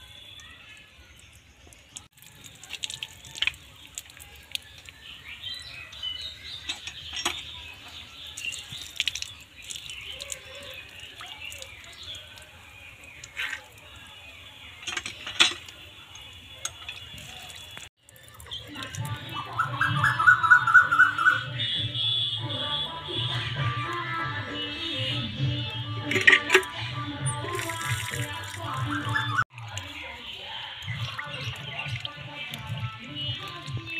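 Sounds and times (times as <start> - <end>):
water dripping and splashing: 0.0 - 33.9.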